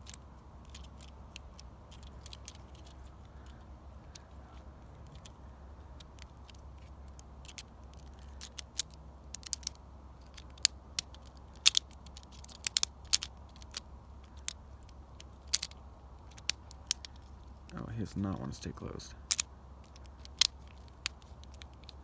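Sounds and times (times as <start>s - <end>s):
plastic toy parts clicking: 0.0s - 5.4s, 6.0s - 17.6s, 19.2s - 22.0s.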